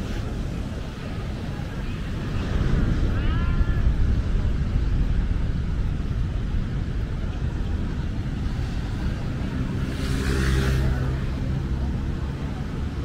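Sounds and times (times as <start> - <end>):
distant surf: 0.0 - 13.0
street traffic: 0.0 - 13.0
wind rumble on microphone: 0.0 - 13.0.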